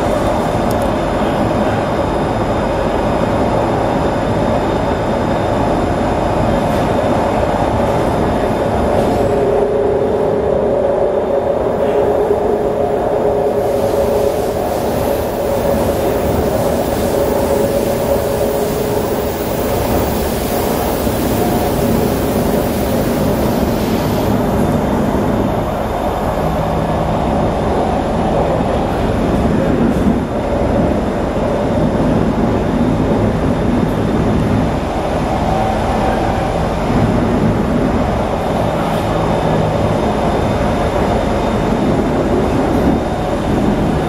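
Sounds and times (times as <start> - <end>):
train wheel and rail rumble: 0.0 - 44.0.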